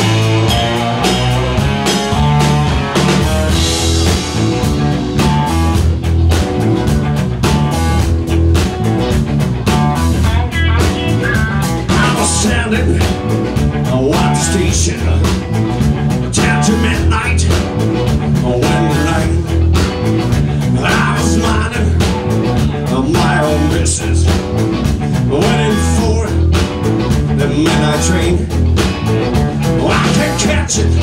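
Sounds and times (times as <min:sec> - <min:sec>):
blues rock band playing: 0:00.0 - 0:31.0
drum beat: 0:00.0 - 0:31.0.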